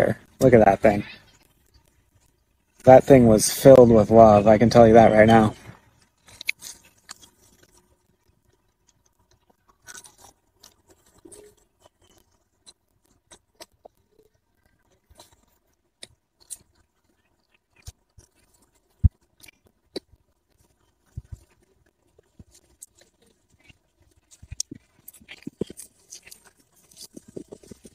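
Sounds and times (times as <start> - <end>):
person chewing: 5.3 - 27.9.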